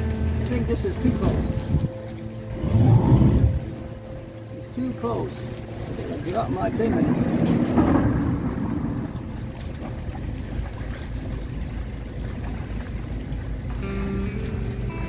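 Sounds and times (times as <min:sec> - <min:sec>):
wind buffeting microphone: 0:00.0 - 0:13.9
boat motor running: 0:00.0 - 0:15.0
water churning: 0:00.0 - 0:15.0.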